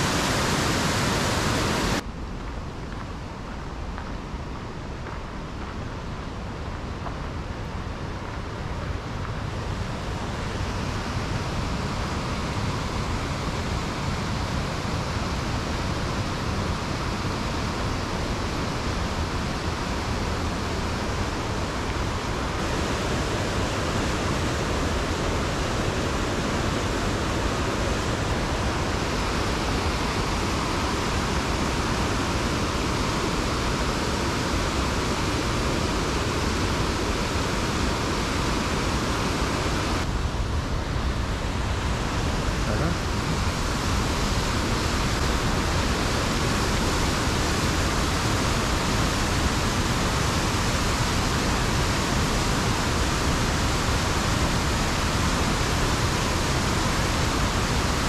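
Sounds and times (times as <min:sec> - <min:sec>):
rushing waterfall: 0:00.0 - 0:58.0.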